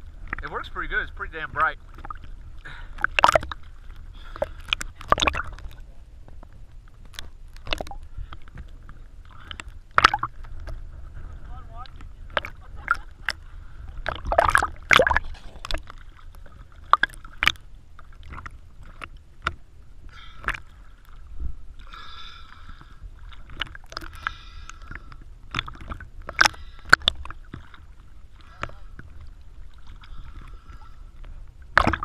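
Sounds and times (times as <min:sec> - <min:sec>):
low underwater rumble: 0:00.0 - 0:32.0
regulator bubbling underwater: 0:00.0 - 0:32.0
sharp underwater clicks and knocks: 0:01.9 - 0:02.3, 0:02.9 - 0:10.8, 0:11.9 - 0:13.4, 0:14.0 - 0:21.2, 0:22.6 - 0:29.3, 0:29.9 - 0:32.0.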